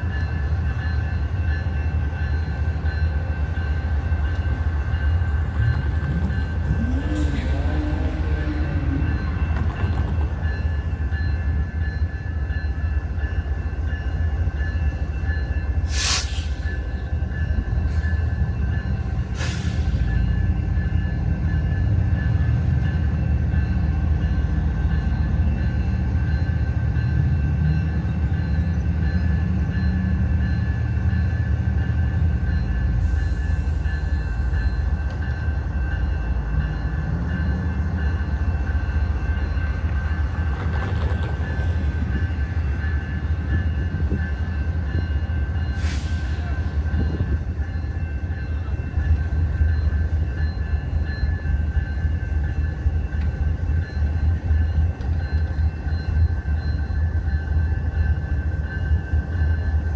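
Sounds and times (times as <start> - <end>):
freight train cars rolling: 0.0 - 59.9.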